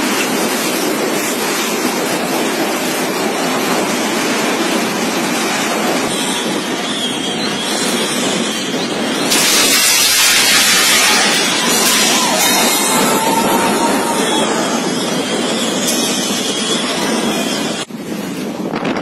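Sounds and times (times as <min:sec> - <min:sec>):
heavy rain: 0:00.0 - 0:18.2
storm wind blowing: 0:00.0 - 0:19.0.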